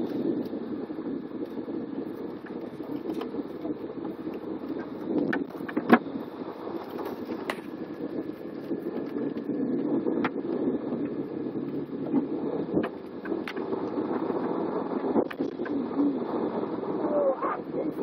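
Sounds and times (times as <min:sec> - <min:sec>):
coach engine and rolling rumble: 0:00.0 - 0:18.0.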